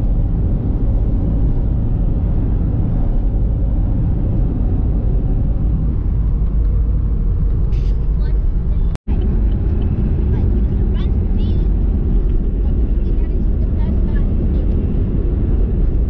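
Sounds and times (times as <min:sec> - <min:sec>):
car driving heard from inside: 0:00.0 - 0:16.0.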